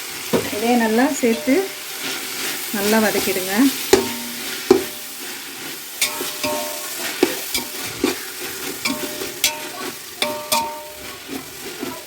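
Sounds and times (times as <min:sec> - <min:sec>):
masala sizzling in a pan: 0:00.0 - 0:12.0
spoon scraping and knocking pan: 0:00.2 - 0:12.0.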